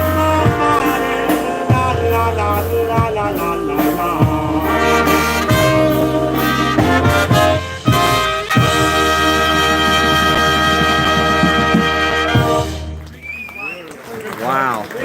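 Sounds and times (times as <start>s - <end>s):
steady bass line: 0.0s - 13.2s
polka band playing: 0.0s - 13.4s
horns playing melody: 0.0s - 13.6s.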